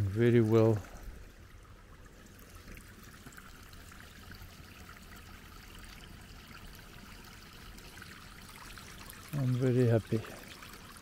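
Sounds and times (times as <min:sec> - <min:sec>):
water trickling in channel: 0:00.0 - 0:11.0.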